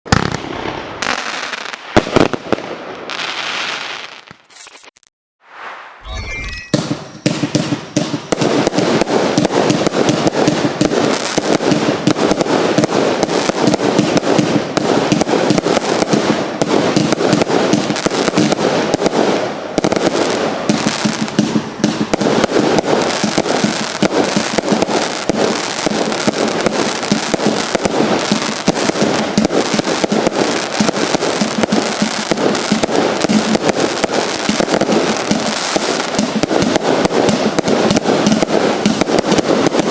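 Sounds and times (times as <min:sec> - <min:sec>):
firework cake rapid shots: 0:06.7 - 0:39.9.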